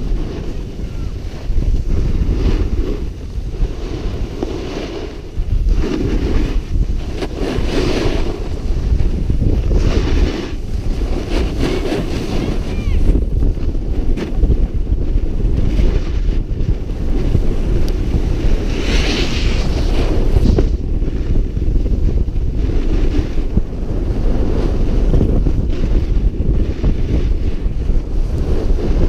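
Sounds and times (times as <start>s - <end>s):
snowboard edges scraping snow: 0.0s - 29.0s
wind buffeting microphone: 0.0s - 29.0s.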